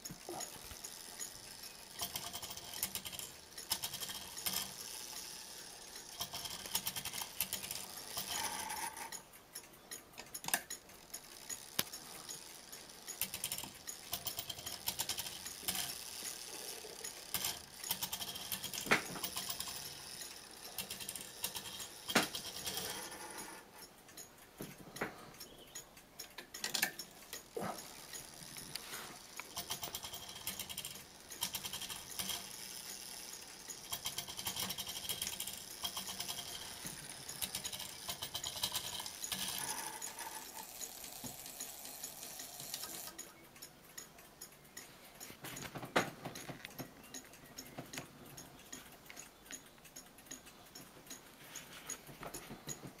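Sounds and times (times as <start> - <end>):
clock gearing whirring and clicking: 0.0 - 53.0.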